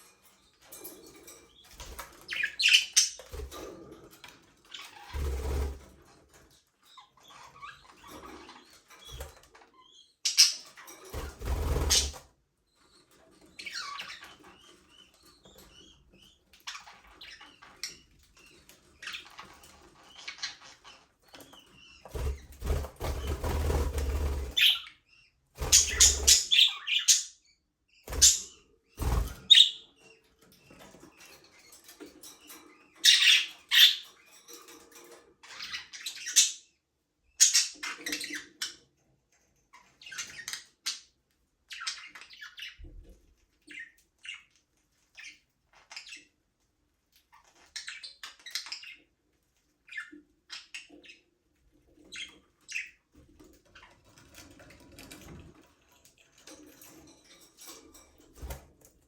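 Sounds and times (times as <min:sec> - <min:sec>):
budgerigars chirping and chattering: 0:00.0 - 0:39.0, 0:39.6 - 0:46.5, 0:47.2 - 0:59.0.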